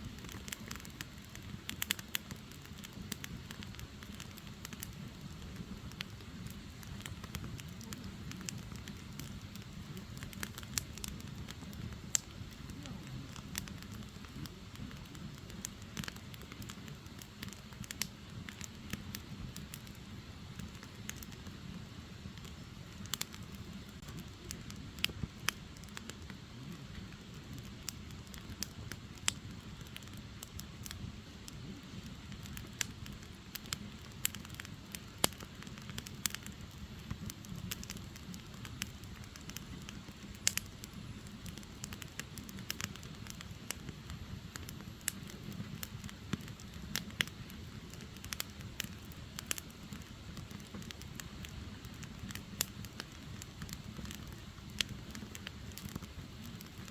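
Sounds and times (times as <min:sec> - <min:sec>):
firewood crackling and popping: 0:00.0 - 0:56.9.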